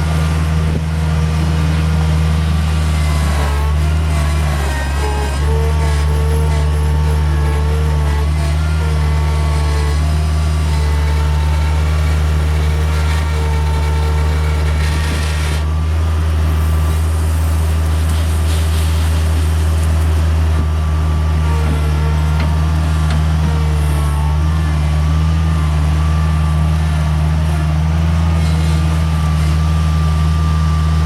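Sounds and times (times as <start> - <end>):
skid steer engine running: 0.0 - 31.0.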